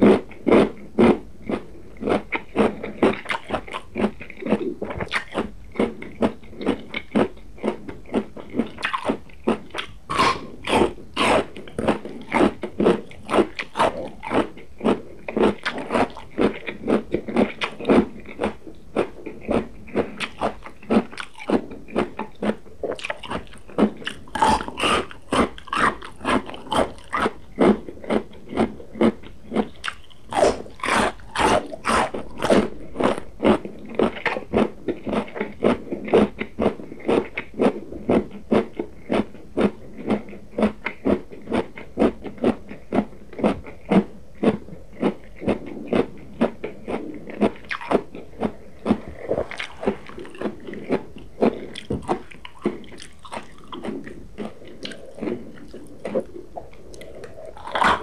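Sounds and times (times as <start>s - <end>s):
crunchy chewing of vegetable: 0.0s - 58.0s.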